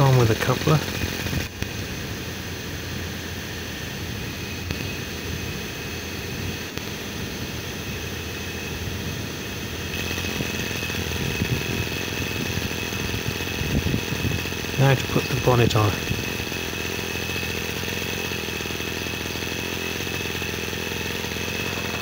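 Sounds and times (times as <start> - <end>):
model engine running: 0.0 - 22.0.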